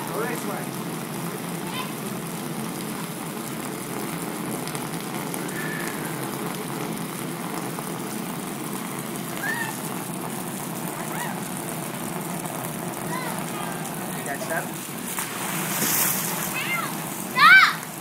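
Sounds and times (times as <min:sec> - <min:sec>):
hose water spraying: 0:00.0 - 0:18.0.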